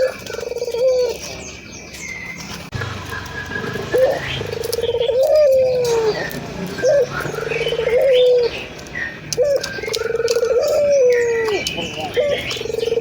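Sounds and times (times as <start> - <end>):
dove cooing: 0.0 - 1.4, 3.3 - 13.0.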